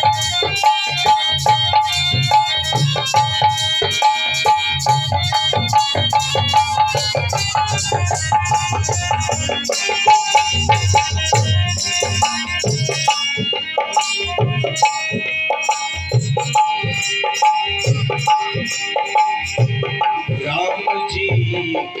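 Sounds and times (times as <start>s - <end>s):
hand drums playing: 0.0s - 22.0s
sustained melody instrument: 0.0s - 22.0s.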